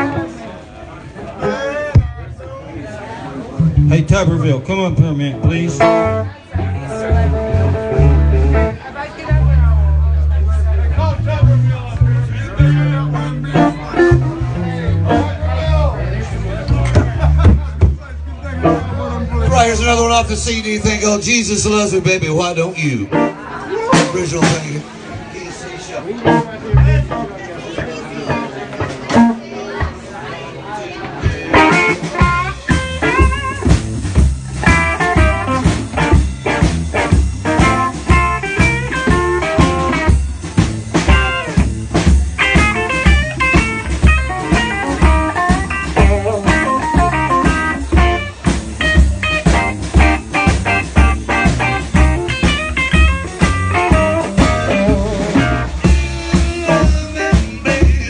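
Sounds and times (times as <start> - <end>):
blues band playing instrumental: 0.0 - 2.4, 3.5 - 30.2, 31.0 - 58.0.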